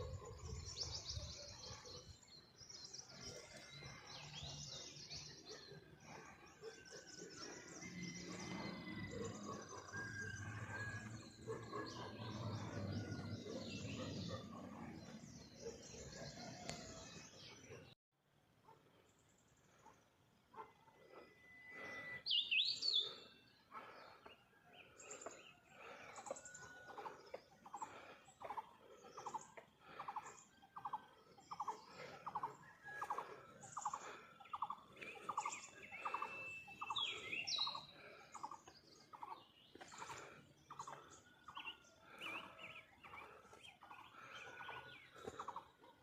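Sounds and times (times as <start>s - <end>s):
birds chirping: 0.0s - 18.0s, 18.6s - 46.0s.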